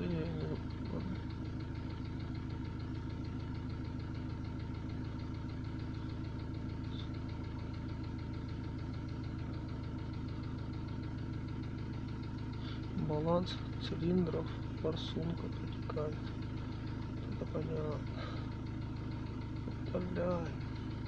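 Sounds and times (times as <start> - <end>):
diesel engine idling with knock: 0.0 - 21.0.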